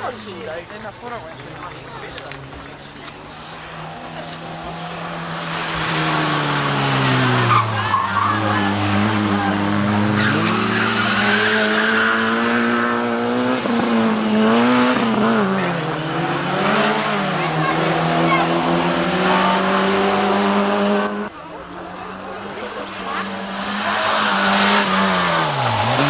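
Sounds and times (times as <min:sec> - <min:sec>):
car engine at high revs: 0:02.1 - 0:26.0.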